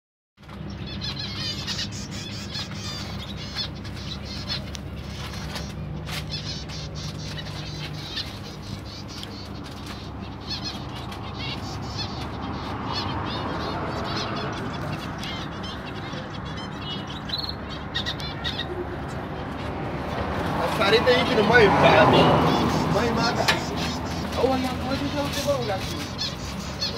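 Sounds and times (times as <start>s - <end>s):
small birds chirping and twittering: 0.4s - 26.9s.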